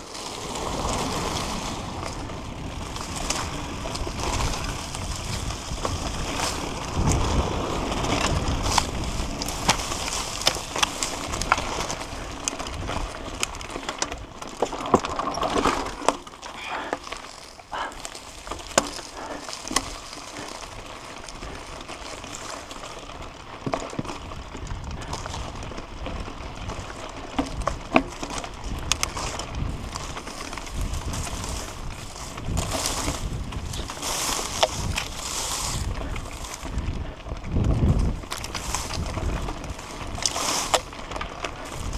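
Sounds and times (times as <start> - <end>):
bike rattling and knocking: 0.0 - 41.9
bike tyres on dirt trail: 0.0 - 41.9.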